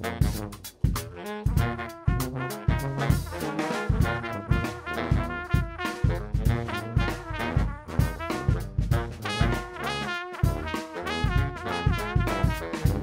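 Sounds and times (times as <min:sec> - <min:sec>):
steady drum beat: 0:00.0 - 0:13.0
upbeat brass music: 0:00.0 - 0:13.0.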